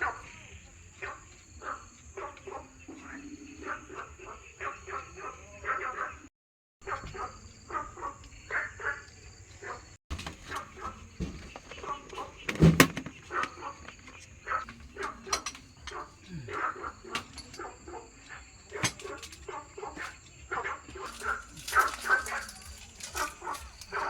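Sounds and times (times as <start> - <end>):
flock of ducks calling: 0.0 - 6.3, 6.9 - 24.0.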